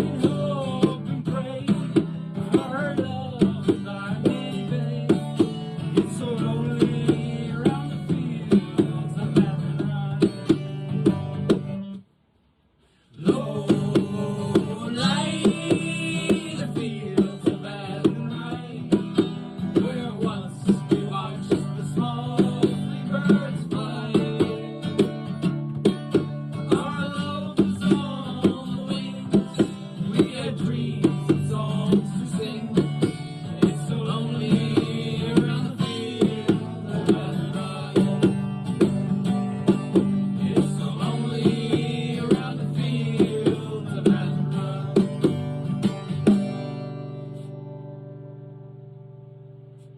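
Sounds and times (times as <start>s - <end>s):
plucked guitar folk music: 0.0s - 12.0s, 13.2s - 49.9s.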